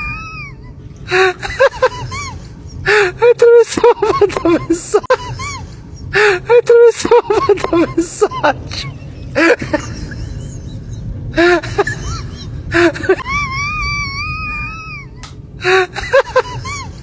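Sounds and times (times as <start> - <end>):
comic crying and wailing: 0.0 - 17.0.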